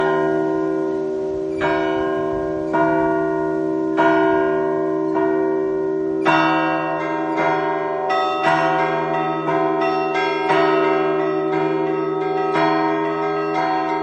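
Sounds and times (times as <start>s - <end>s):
church bell strokes: 0.0s - 14.0s.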